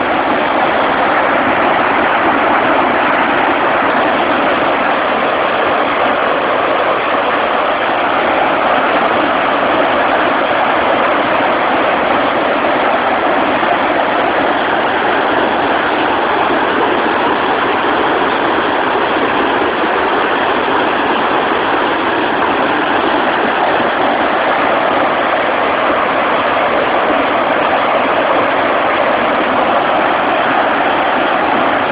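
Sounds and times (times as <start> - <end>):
water pouring over concrete drop: 0.0 - 31.9.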